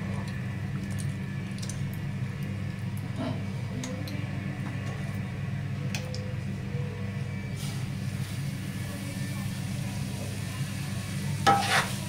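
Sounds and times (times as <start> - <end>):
ghee crackling in a hot pan: 0.0 - 6.1, 7.5 - 12.0
steady low hum: 0.0 - 12.0.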